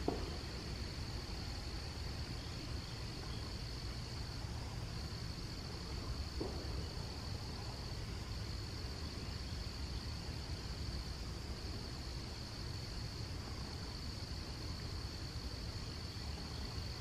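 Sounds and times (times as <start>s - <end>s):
insects droning high-pitched: 0.0s - 17.0s.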